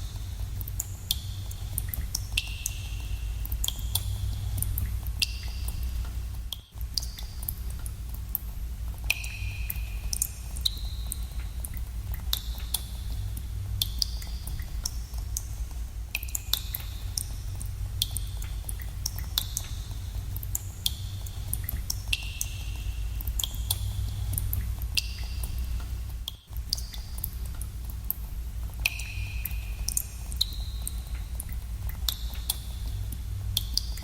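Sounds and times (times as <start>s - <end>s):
steady low rumble: 0.0s - 34.0s
water dripping in a cave: 0.0s - 34.0s.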